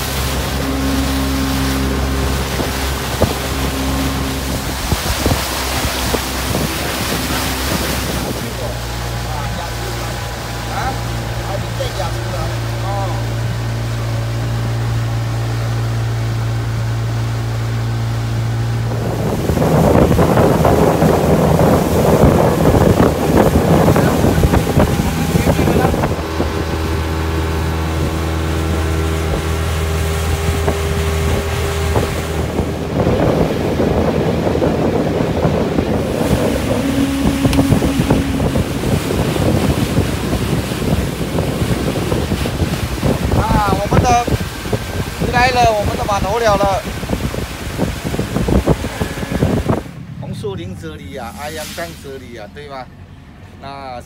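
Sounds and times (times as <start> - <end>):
wind buffeting microphone: 0.0 - 51.0
outboard motor running: 0.0 - 54.0
water rushing along hull: 0.0 - 54.0.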